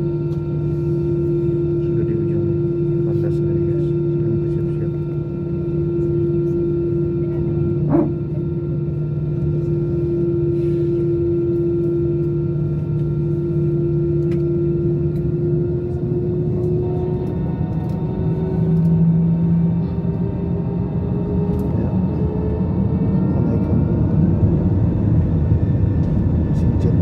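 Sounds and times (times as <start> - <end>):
jet engines humming in cabin: 0.0 - 27.0.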